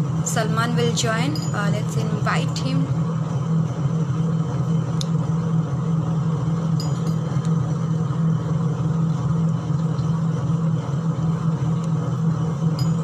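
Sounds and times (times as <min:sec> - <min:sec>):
constant noisy background: 0:00.0 - 0:13.0
low mechanical hum: 0:00.0 - 0:13.0.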